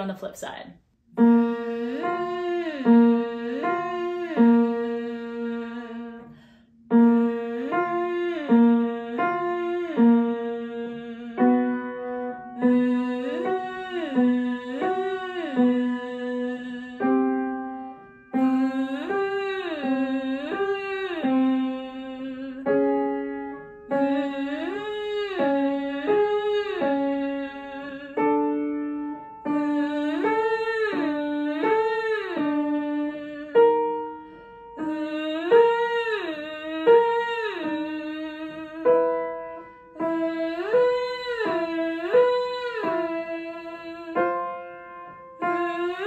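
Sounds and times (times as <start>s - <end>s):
woman singing vocal exercise: 1.2s - 44.8s, 45.4s - 46.0s.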